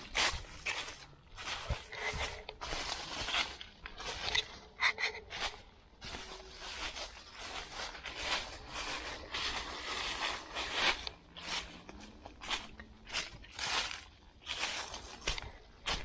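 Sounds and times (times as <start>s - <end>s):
footsteps on dry leaves: 0.0s - 16.0s.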